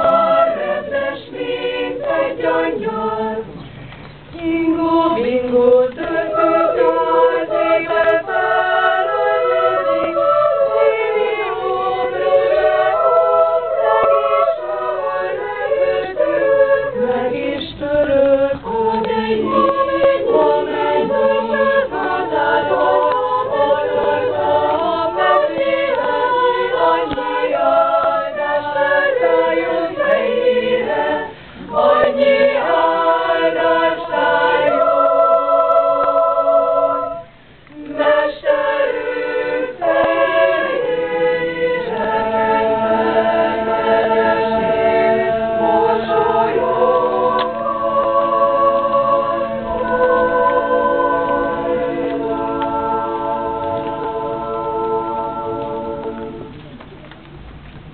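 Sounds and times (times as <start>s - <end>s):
choir singing a cappella: 0.0s - 56.7s.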